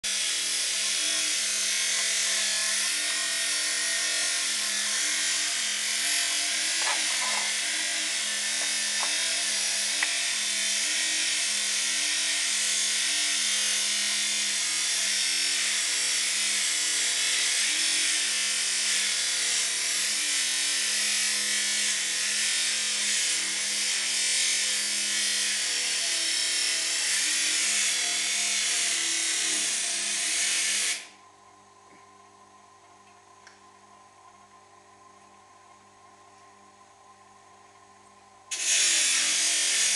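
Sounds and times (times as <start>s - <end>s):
welding arc buzzing hiss: 0.1s - 31.1s, 38.5s - 39.9s.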